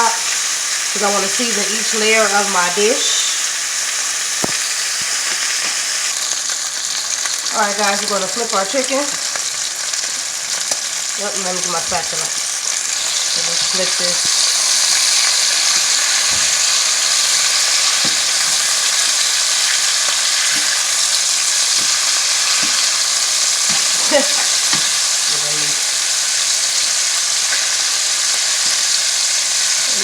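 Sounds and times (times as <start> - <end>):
chicken sizzling in oil: 0.0 - 30.0.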